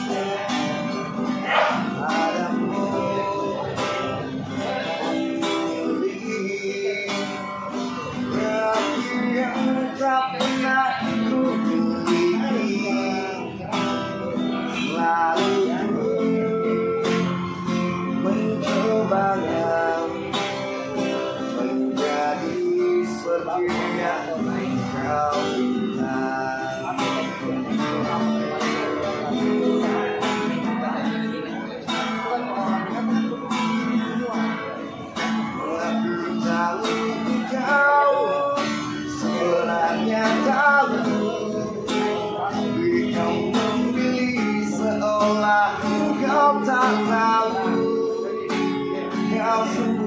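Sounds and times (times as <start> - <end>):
acoustic guitar strumming: 0.0 - 50.0.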